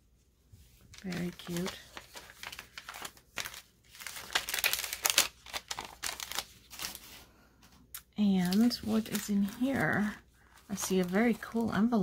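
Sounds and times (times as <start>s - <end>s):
paper rustling and crinkling: 0.6s - 7.8s, 8.4s - 12.0s.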